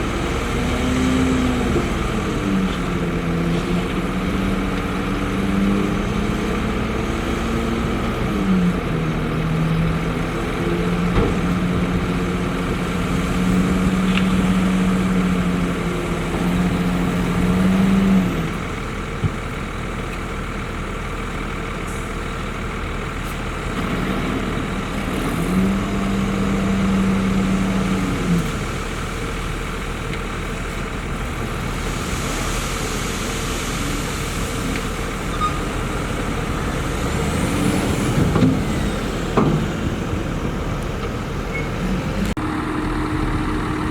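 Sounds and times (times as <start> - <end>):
heavy diesel machinery engine drone: 0.0 - 43.9.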